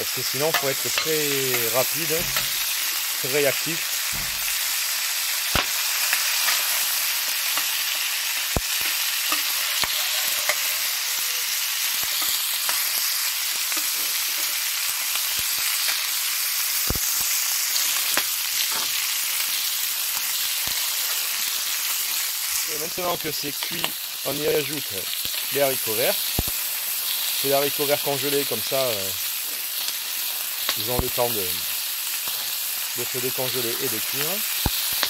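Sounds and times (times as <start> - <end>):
chicken sizzling in oil: 0.0 - 35.0.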